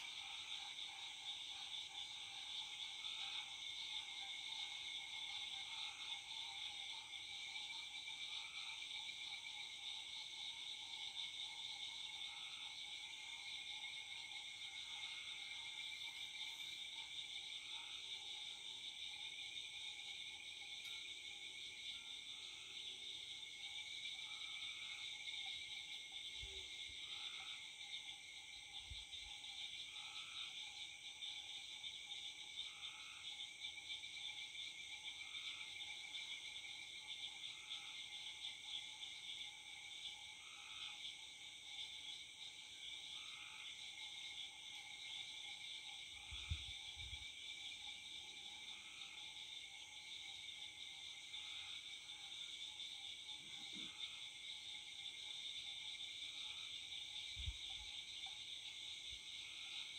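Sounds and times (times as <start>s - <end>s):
crickets and insects droning: 0.0s - 59.9s.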